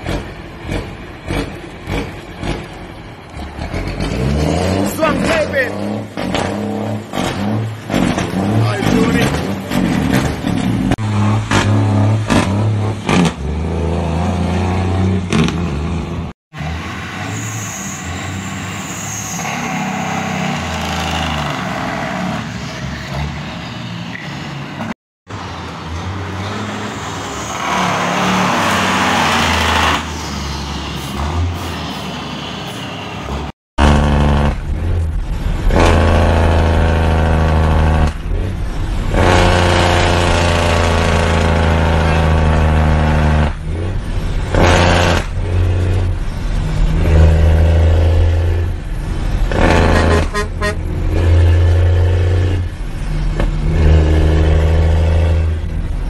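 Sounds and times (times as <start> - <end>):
heavy truck engines pulling: 0.0 - 56.0.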